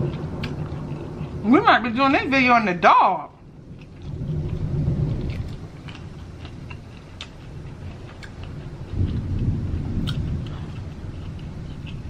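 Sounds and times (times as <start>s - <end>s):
chewing: 0.0s - 1.4s, 3.6s - 12.0s
low muffled rumble: 0.0s - 12.0s.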